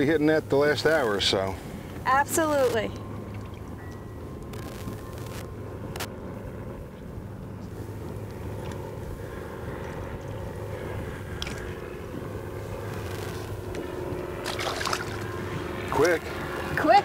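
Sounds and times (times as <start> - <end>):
motorboat engine idling: 0.0 - 17.0.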